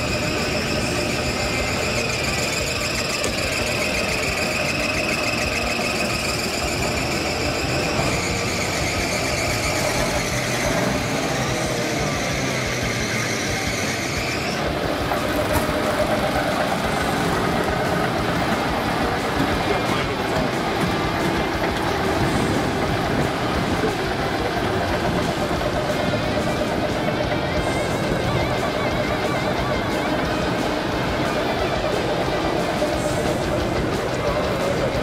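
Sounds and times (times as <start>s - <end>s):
high-pitched engine whine: 0.0s - 35.0s
vehicle engine running: 0.0s - 35.0s.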